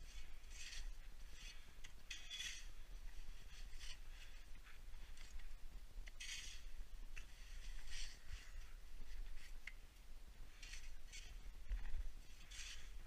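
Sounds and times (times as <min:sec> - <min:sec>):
dry snow crunching: 0:00.0 - 0:09.6, 0:10.5 - 0:13.0.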